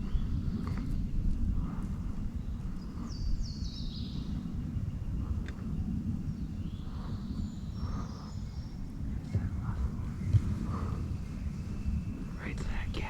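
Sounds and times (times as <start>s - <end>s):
songbirds singing: 0.0s - 13.0s
steady low rumble: 0.0s - 13.0s.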